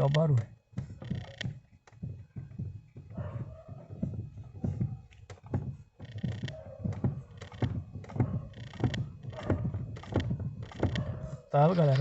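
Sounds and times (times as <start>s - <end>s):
steering column knocking: 0.0s - 12.0s.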